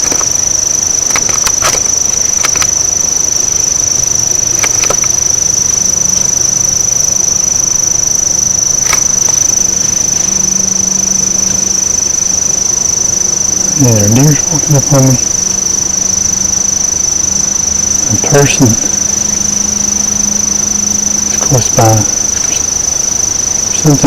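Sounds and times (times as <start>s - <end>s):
steady high-pitched tone: 0.0s - 24.0s.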